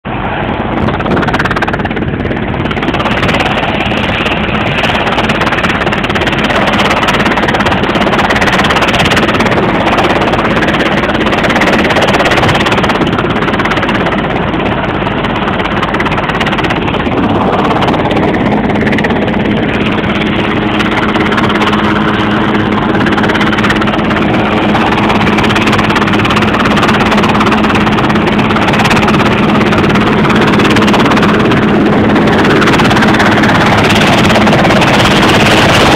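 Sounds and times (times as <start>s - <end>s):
helicopter hovering overhead: 0.1s - 35.9s
steady hum: 0.1s - 35.9s.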